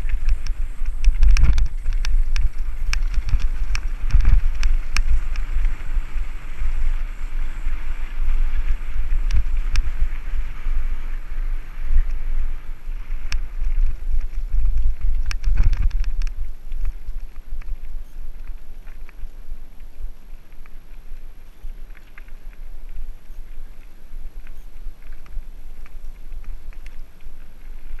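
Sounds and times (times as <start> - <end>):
bike clicks and rattles: 0.0 - 28.0
bike tyre noise: 0.0 - 28.0
wind rumble on microphone: 0.0 - 28.0.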